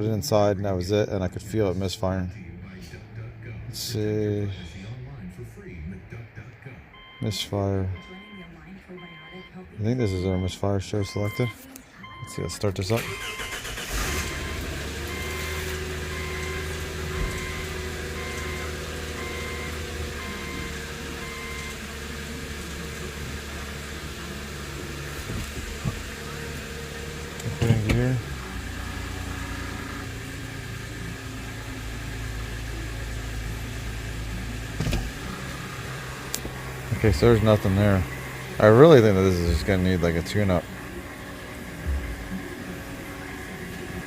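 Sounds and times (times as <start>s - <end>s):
car engine idling: 0.0s - 44.0s
car warning chime beeping: 6.9s - 44.0s.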